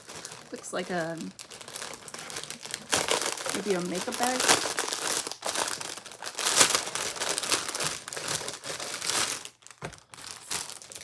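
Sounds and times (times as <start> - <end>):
gift wrapping rustling: 0.0 - 11.0.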